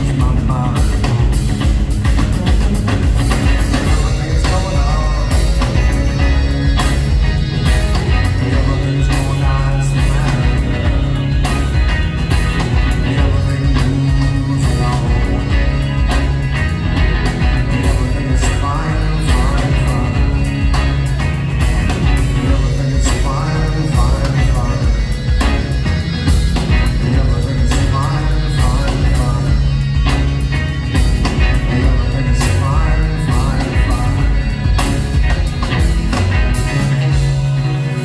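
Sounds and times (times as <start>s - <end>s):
drums: 0.0s - 38.0s
heavy bass line: 0.0s - 38.0s
rock band playing live: 0.0s - 38.0s.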